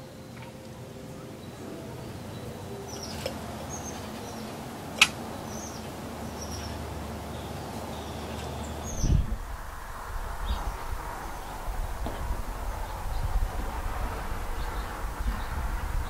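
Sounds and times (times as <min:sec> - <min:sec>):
birds chirping: 0:00.0 - 0:09.5, 0:10.2 - 0:16.0
outdoor hiss: 0:00.0 - 0:16.0.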